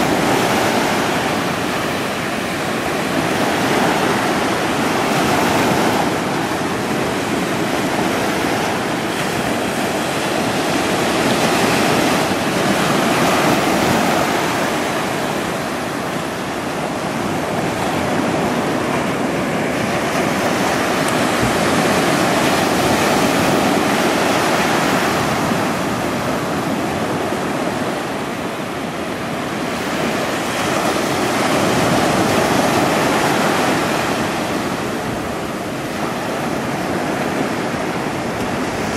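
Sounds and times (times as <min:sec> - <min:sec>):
ocean surf washing on beach: 0:00.0 - 0:38.9.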